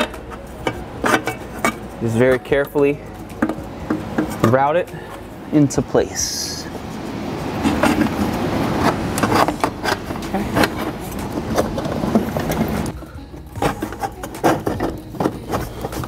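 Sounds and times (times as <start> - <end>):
plastic pipe clicking and scraping: 0.0 - 5.2, 6.7 - 16.0.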